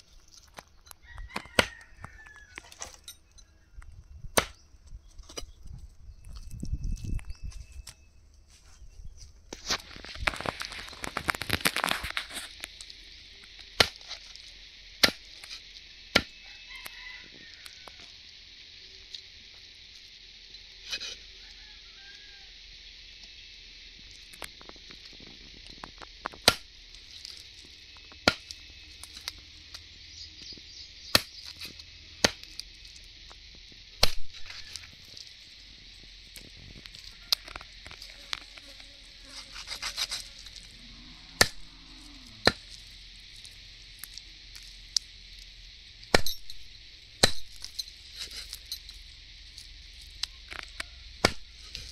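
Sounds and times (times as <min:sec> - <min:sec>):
steady high hiss: 0:00.0 - 0:51.9.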